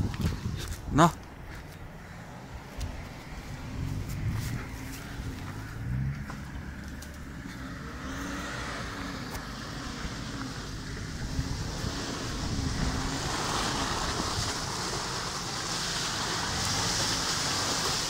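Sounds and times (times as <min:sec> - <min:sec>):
suv engine revving: 0:02.8 - 0:18.0.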